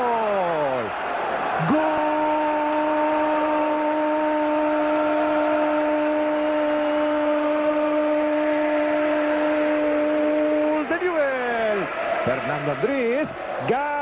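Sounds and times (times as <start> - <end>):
stadium crowd noise: 0.0 - 14.0.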